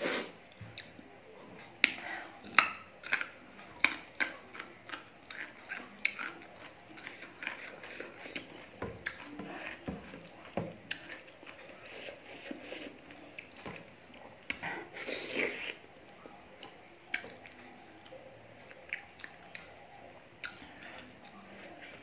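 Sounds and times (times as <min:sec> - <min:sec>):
chewing and wet mouth noises: 0:00.4 - 0:22.0.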